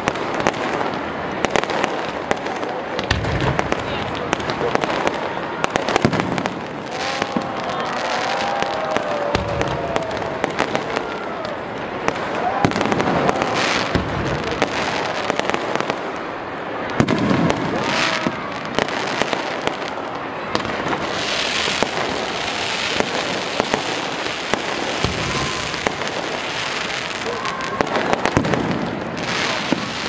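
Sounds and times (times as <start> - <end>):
fireworks bangs and cracks: 0.0 - 30.0
fireworks sizzling crackle: 0.0 - 30.0.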